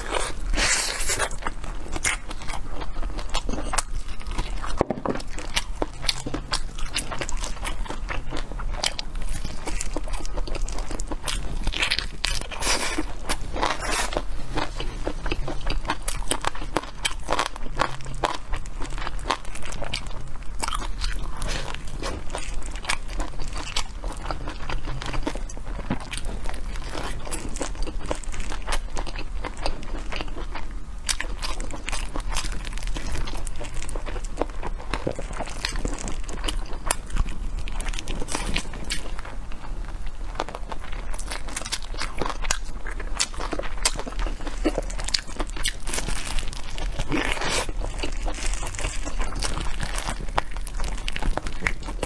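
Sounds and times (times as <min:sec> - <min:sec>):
biting and crunchy chewing: 0:00.0 - 0:52.0
low steady hum: 0:00.0 - 0:52.0.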